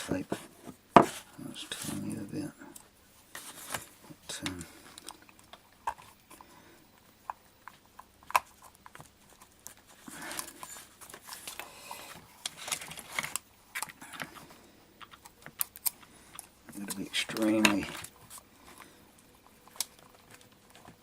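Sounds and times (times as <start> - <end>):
tape rustling and crinkling: 0.0 - 21.0.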